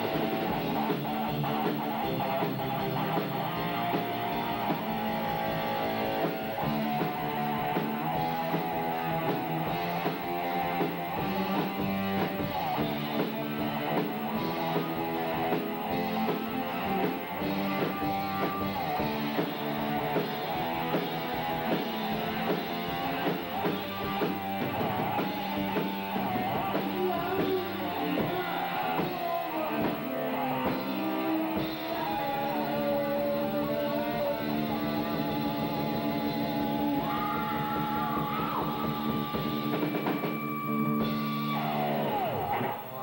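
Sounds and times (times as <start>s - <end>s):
electric guitar bent lead notes: 0.0s - 43.0s
rock band playing: 0.0s - 43.0s.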